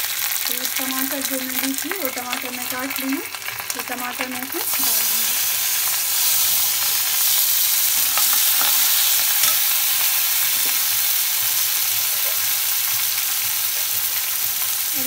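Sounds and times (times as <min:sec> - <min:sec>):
tomatoes sizzling in hot oil: 0:00.0 - 0:15.0.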